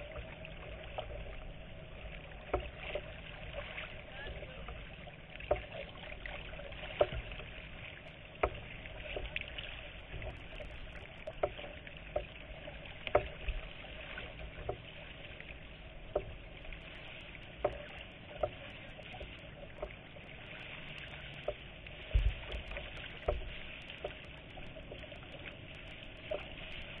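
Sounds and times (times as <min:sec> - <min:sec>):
water lapping against kayak: 0:00.0 - 0:27.0.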